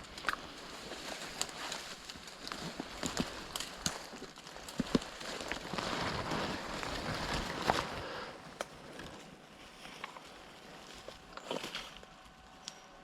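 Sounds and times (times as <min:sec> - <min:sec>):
twigs snapping: 0:00.0 - 0:09.2, 0:09.8 - 0:12.8
footsteps through undergrowth: 0:00.0 - 0:13.0.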